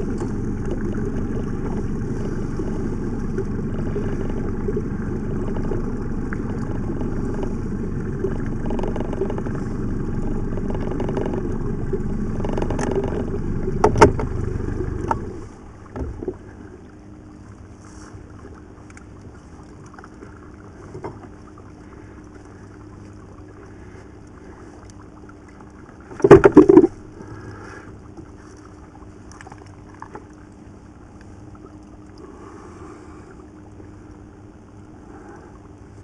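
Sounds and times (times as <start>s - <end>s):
outboard motor idling: 0.0s - 36.0s.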